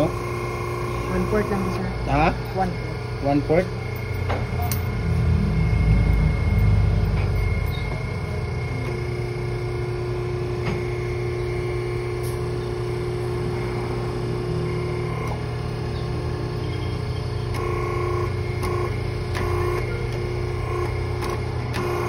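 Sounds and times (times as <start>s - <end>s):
crimping machine humming: 0.0s - 22.0s.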